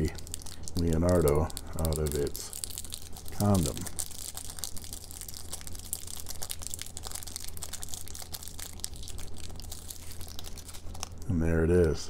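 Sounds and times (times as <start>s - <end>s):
plastic sleeve crinkling: 0.0s - 12.0s.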